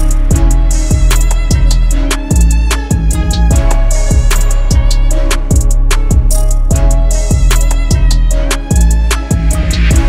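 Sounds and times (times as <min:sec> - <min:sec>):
drum machine kicks: 0:00.0 - 0:10.0.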